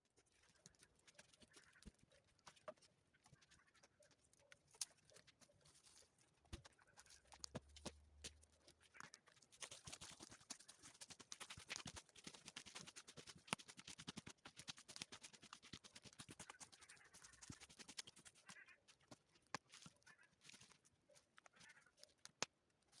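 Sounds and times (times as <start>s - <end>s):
dry twigs crackling: 0.2s - 12.5s, 16.4s - 22.9s.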